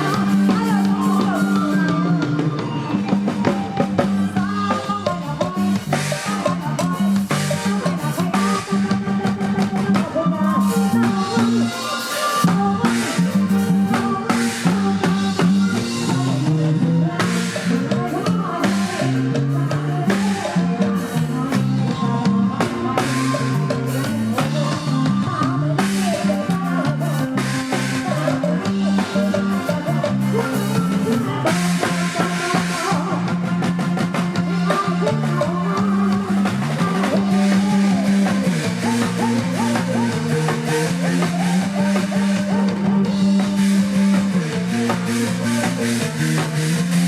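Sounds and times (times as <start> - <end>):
drum kit snare and cymbals: 0.0 - 47.0
live band playing dance music: 0.0 - 47.0
walking bass line: 0.0 - 47.0.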